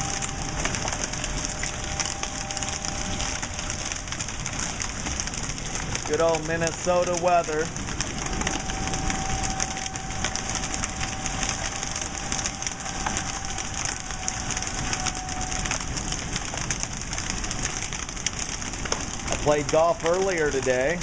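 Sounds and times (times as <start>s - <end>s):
distant warning siren: 0.0s - 21.0s
hail clattering on a deck: 0.0s - 21.0s.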